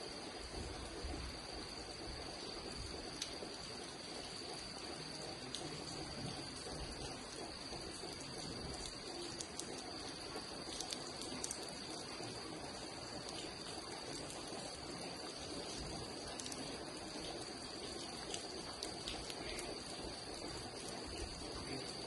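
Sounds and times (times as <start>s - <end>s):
high-pitched insect drone: 0.0s - 22.0s
rain hiss: 0.0s - 22.0s
water drips ticking: 0.1s - 22.0s.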